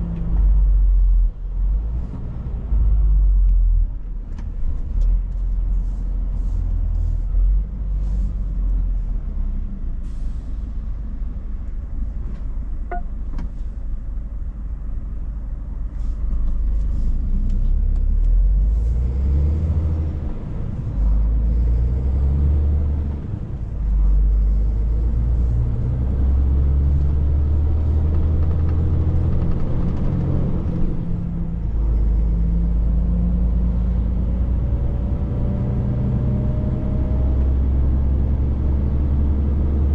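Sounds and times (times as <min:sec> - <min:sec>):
road noise: 0:00.0 - 0:39.9
truck engine rumble: 0:00.0 - 0:39.9.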